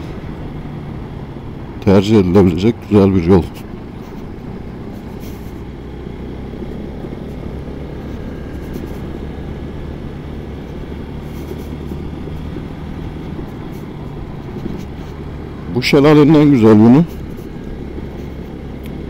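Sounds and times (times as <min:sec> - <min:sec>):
motorcycle engine cruising: 0:00.0 - 0:19.0
road and wind noise: 0:00.0 - 0:19.0.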